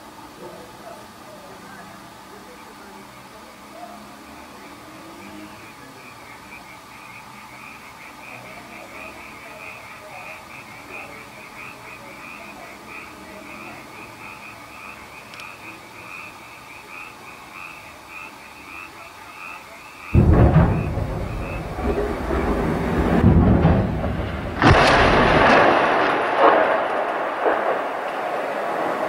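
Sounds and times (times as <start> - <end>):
frogs croaking: 0.0 - 29.0.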